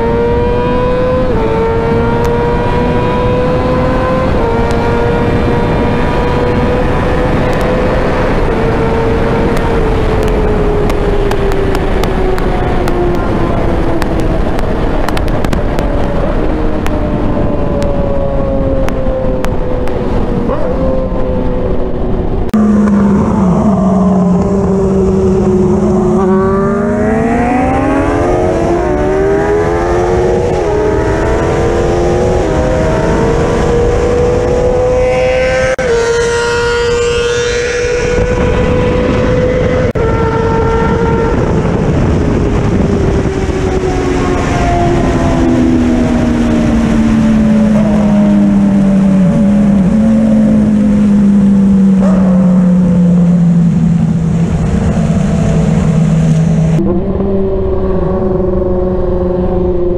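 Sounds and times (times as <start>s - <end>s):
motorcycle engine accelerating: 0.0s - 59.9s
wind rushing: 0.0s - 59.9s.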